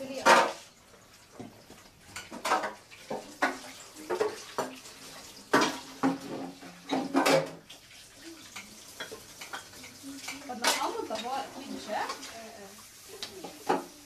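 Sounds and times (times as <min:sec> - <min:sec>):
dishes and cutlery clattering: 0:00.0 - 0:00.7, 0:01.3 - 0:12.5, 0:13.4 - 0:14.0.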